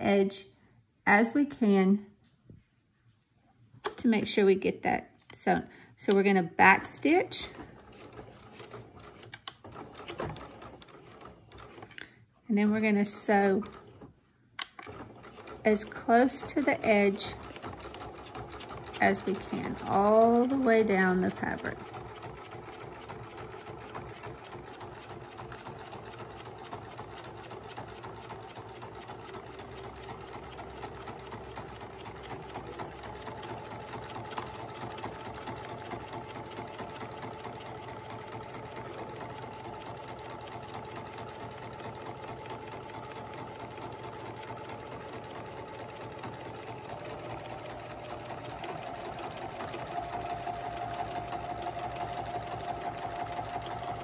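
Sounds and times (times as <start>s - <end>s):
sewing machine stitching: 6.7s - 54.0s.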